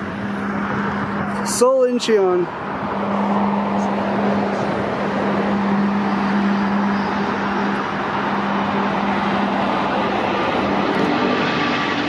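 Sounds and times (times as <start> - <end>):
jet engines roaring: 0.0 - 12.0
steady engine hum: 0.0 - 12.0.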